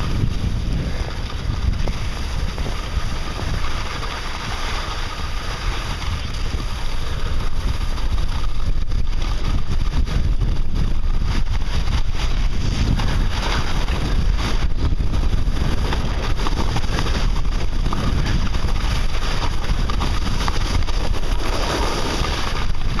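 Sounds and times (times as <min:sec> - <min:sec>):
skis sliding over granular snow: 0:00.0 - 0:23.0
wind buffeting microphone: 0:00.0 - 0:23.0.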